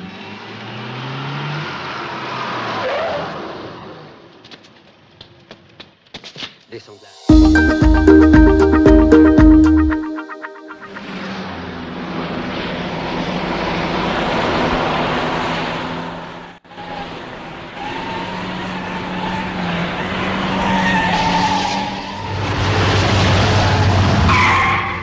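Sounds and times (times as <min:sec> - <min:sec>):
road noise: 0:00.0 - 0:06.0, 0:10.6 - 0:25.0.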